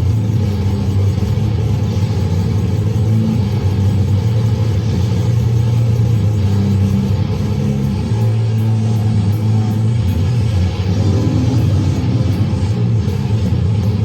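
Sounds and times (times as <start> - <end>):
distorted guitar droning: 0.0 - 14.0.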